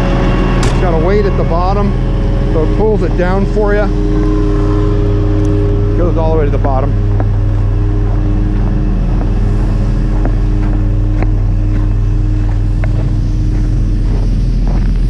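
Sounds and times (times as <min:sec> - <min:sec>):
truck engine idling: 0:00.0 - 0:15.0
vacuum pump drone: 0:00.0 - 0:15.0.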